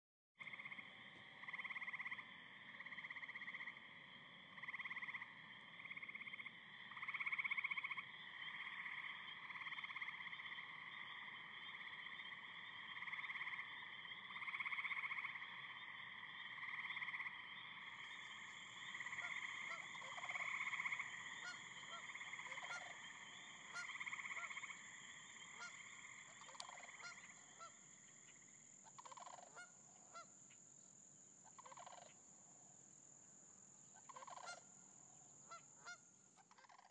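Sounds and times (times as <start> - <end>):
frogs and insects trilling: 0.4 - 36.9.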